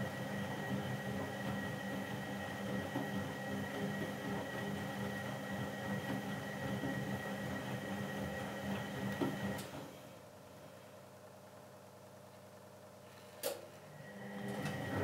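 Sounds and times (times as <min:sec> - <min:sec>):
washing machine drum motor humming: 0:00.0 - 0:12.8, 0:13.4 - 0:15.0.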